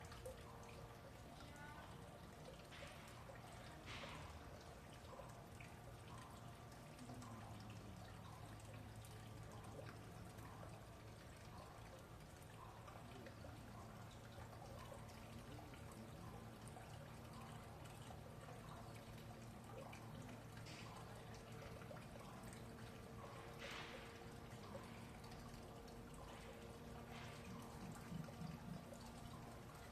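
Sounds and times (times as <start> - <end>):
water trickling: 0.0 - 29.9.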